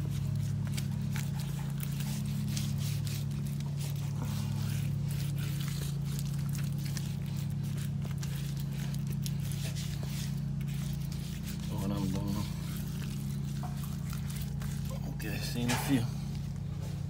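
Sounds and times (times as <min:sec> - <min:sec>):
soft dabs of wet cement: 0:00.0 - 0:17.0
steady low hum: 0:00.0 - 0:17.0.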